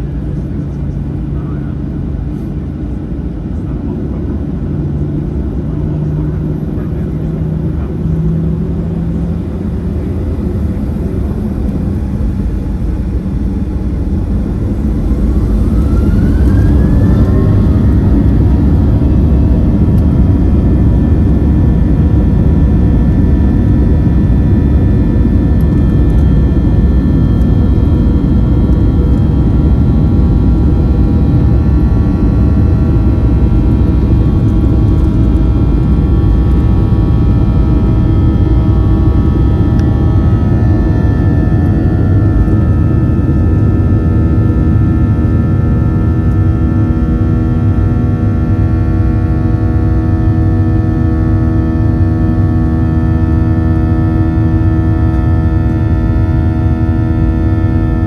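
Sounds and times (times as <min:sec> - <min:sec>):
jet engines whining and rumbling: 0:00.0 - 0:58.0.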